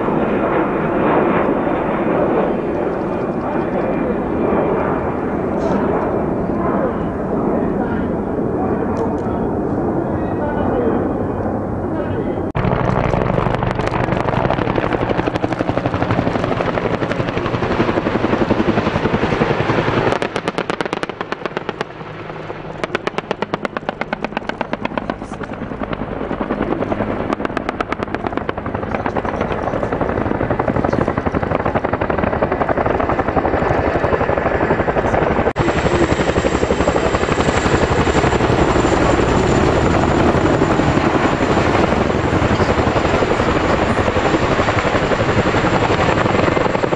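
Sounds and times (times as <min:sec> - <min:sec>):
helicopter rotor blades chopping: 0:00.0 - 0:46.9
high helicopter whine: 0:00.0 - 0:46.9.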